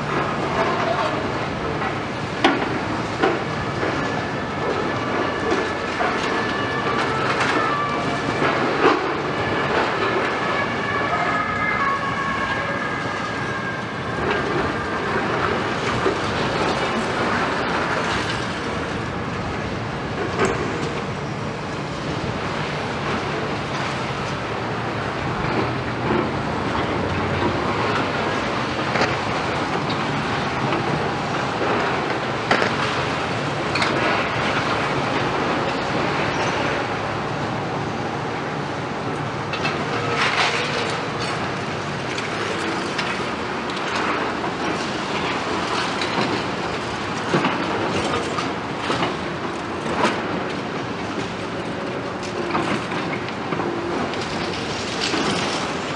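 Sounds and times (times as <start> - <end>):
diesel excavator engines running: 0.0 - 55.9.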